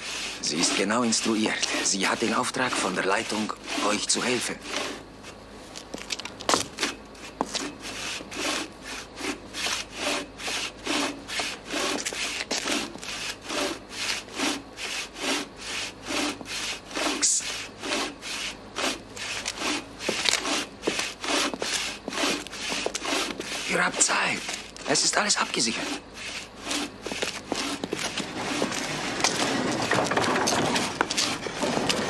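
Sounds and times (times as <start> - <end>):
hand saw cutting wood: 0.0 - 5.4, 6.5 - 32.0.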